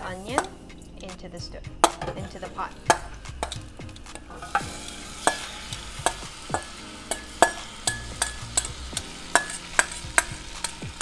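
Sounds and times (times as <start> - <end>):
food frying in oil: 1.8 - 11.0
metal spoon clinking on bowl: 1.8 - 11.0.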